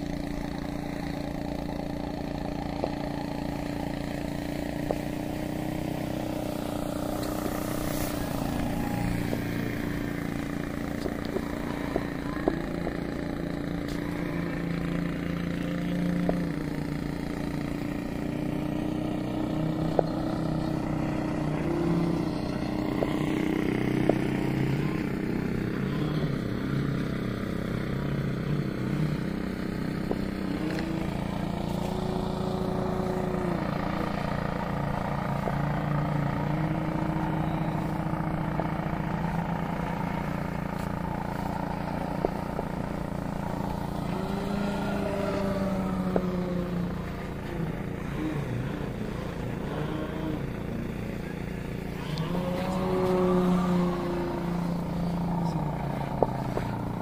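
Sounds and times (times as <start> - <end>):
rc plane motor droning: 0.0 - 57.0.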